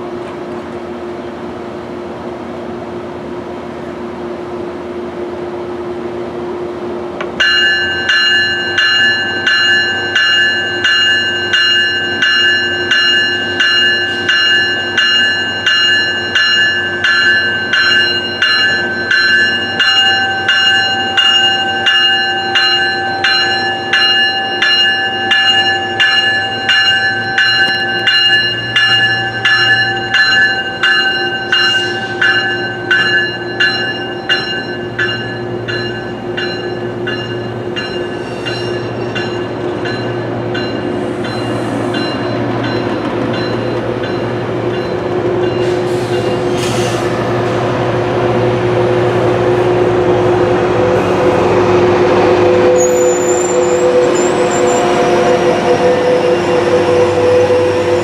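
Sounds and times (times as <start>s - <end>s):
train rumble: 0.0s - 58.0s
railway warning bell ringing: 7.3s - 58.0s.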